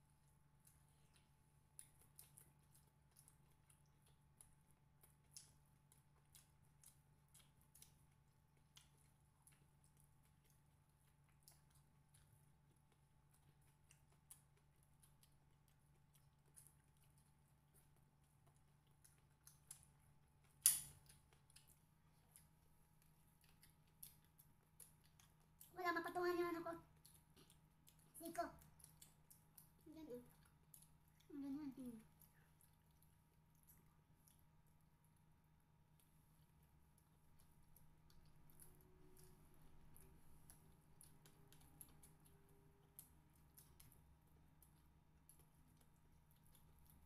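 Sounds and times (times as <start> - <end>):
low steady hum: 0.0 - 47.0
chewing clicks and smacks: 0.1 - 47.0.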